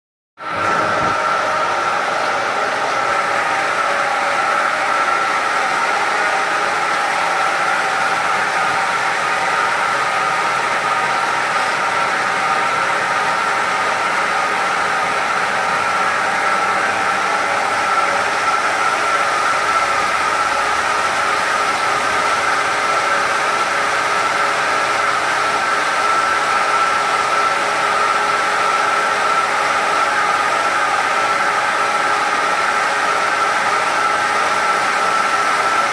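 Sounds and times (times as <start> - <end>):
carpet washing machine whine: 0.4 - 35.9.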